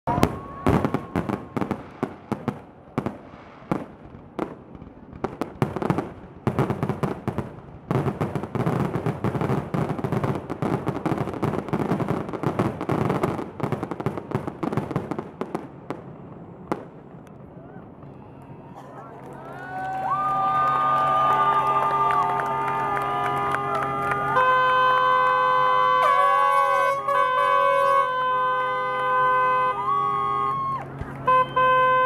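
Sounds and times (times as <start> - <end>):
fireworks bursting with bangs: 0.0 - 18.1, 21.8 - 32.0.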